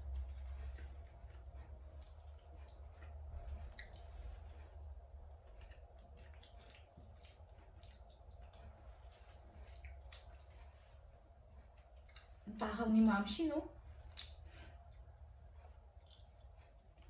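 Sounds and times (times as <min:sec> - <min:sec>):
person chewing with wet mouth noises: 0:00.0 - 0:12.5, 0:13.8 - 0:17.0
steady low hum: 0:00.0 - 0:17.0.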